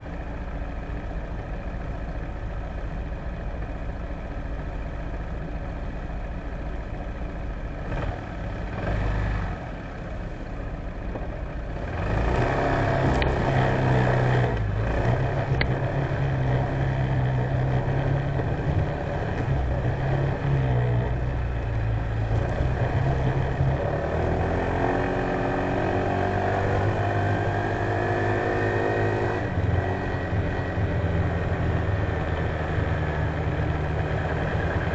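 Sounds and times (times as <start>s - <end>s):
scooter engine running: 0.0s - 34.9s.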